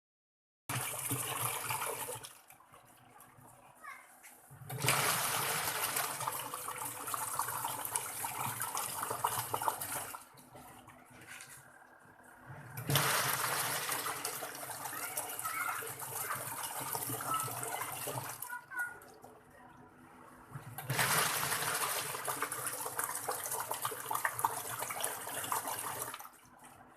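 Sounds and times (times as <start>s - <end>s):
water rushing in washing machine: 0.7s - 3.7s, 4.5s - 19.5s, 20.1s - 26.9s.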